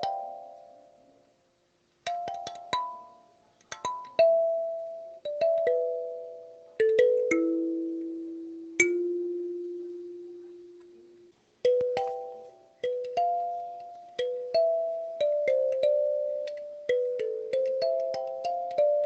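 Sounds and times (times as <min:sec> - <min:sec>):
kalimba melody: 0:00.0 - 0:01.2, 0:02.0 - 0:19.0.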